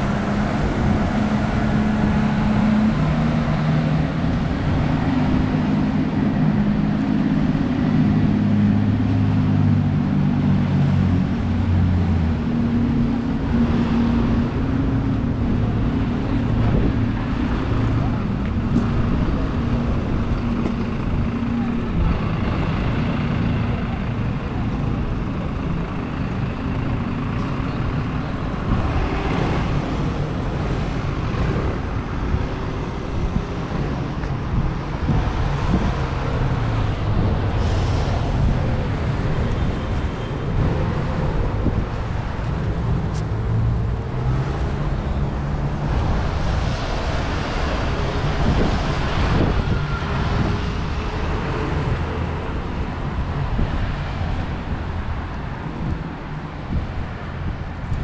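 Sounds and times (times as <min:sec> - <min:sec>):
traffic on wet roads: 0:00.0 - 0:58.0.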